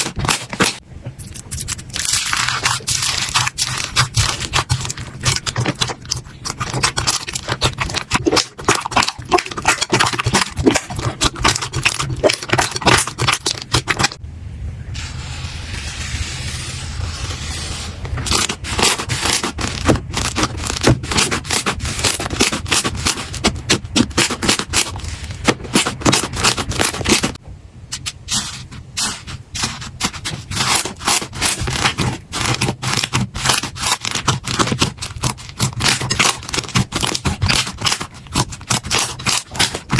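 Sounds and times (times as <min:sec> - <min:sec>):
slime crackling and popping: 0:00.0 - 0:14.2, 0:18.3 - 0:27.4, 0:29.7 - 0:39.9.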